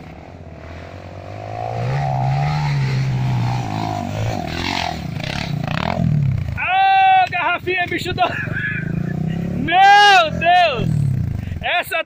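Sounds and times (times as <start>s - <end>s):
dirt bike engine revving: 0.0s - 6.7s, 7.6s - 11.7s.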